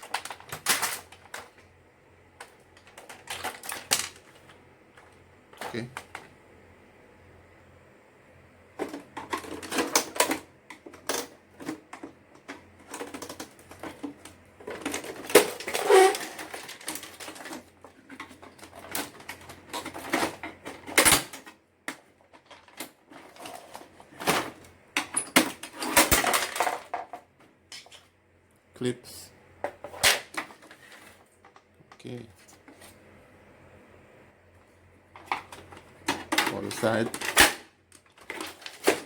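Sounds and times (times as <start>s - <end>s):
plastic parts clicking and rattling: 0.0s - 1.8s, 2.4s - 6.3s, 8.8s - 28.1s, 29.6s - 32.2s, 35.1s - 39.0s.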